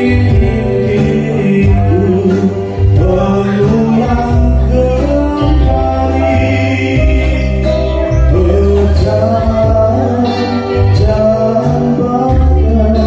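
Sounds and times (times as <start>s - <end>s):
guitar: 0.0s - 13.0s
keyboard: 0.0s - 13.0s
low bass notes: 0.0s - 13.0s
man singing into a microphone: 0.0s - 13.0s.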